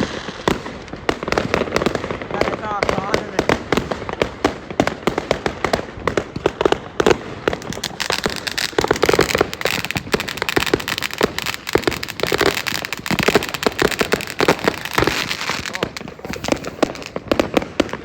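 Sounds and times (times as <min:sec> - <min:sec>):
fireworks bangs and crackling pops: 0:00.0 - 0:18.0.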